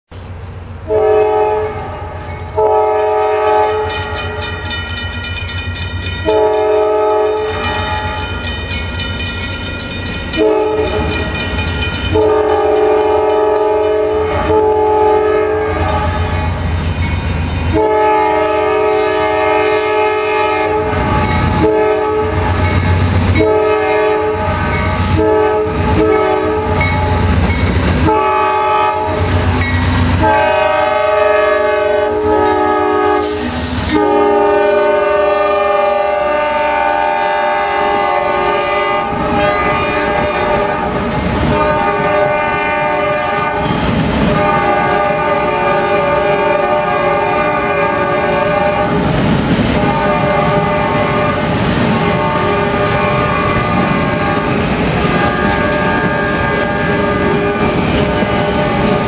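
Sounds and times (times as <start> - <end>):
train air horn blasts: 0.9 - 4.4, 6.2 - 8.2, 10.3 - 11.3, 12.1 - 16.5, 17.7 - 27.3, 28.0 - 59.0.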